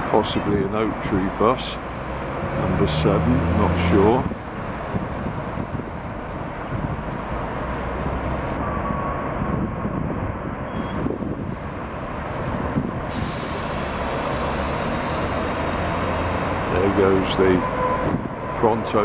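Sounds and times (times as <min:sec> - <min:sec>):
diesel bus engines idling: 0:00.0 - 0:08.6, 0:09.5 - 0:19.0.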